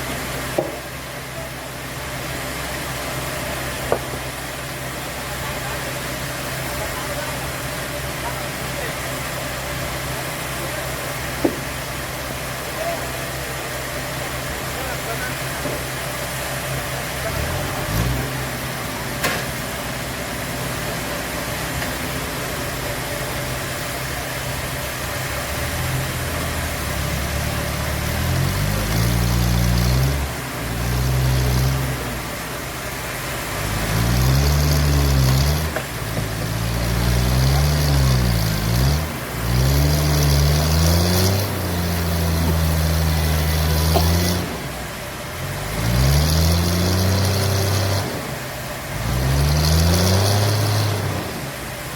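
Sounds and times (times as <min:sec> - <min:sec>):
sawmill engine revving: 0:00.0 - 0:51.9.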